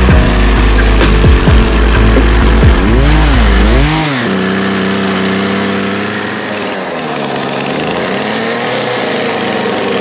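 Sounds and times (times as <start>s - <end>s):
chainsaw running at high revs: 0.0s - 10.0s.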